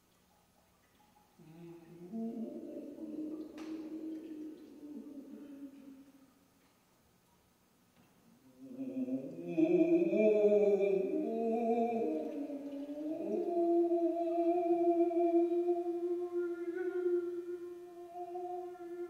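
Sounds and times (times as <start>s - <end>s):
voice singing long tones: 1.4s - 6.2s, 8.5s - 19.0s.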